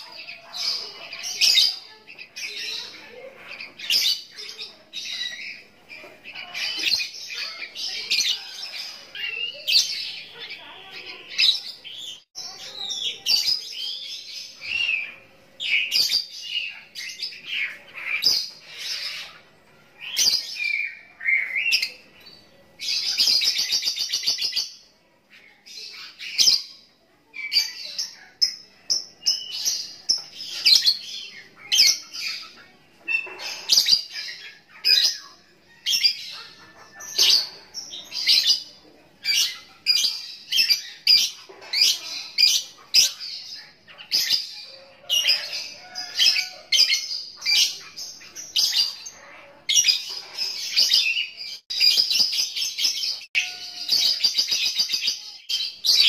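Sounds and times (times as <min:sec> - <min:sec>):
bird chirping and twittering: 0:00.0 - 0:56.0.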